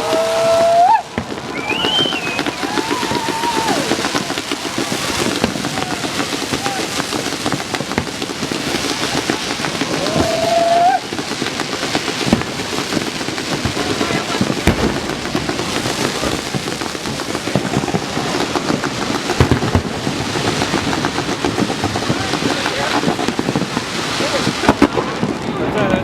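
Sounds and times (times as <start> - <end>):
rising firework whistle: 0.0 - 25.6
fireworks booms: 0.0 - 26.0
fireworks crackling: 0.0 - 26.0.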